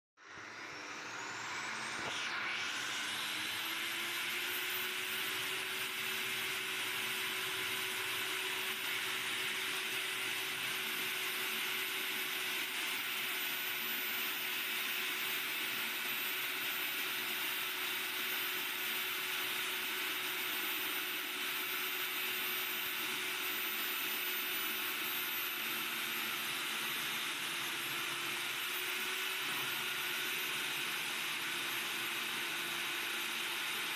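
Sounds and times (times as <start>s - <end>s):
core drill whining: 0.2s - 33.9s.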